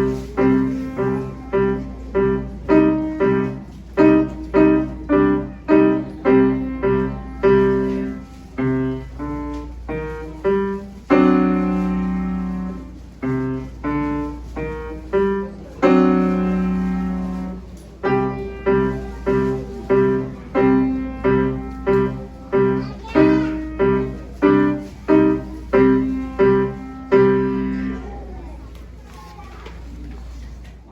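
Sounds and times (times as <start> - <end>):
acoustic piano piece: 0.0 - 30.9.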